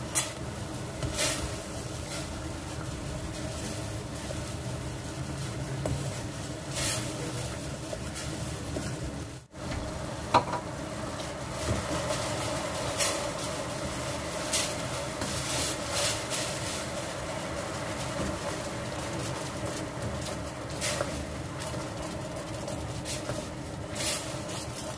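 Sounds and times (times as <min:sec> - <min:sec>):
light sizzle: 0:00.0 - 0:24.9.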